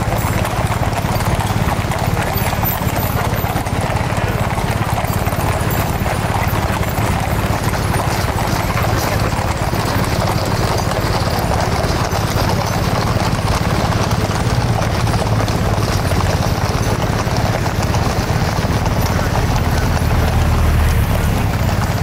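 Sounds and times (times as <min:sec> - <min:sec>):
horse hooves clip-clopping on road: 0:00.0 - 0:22.0.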